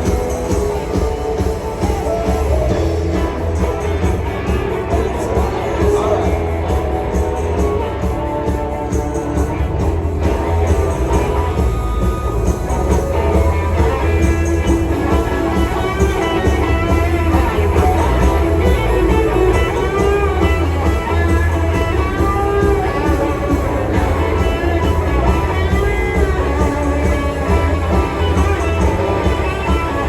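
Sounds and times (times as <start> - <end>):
rock music with guitars and bass: 0.0 - 30.0.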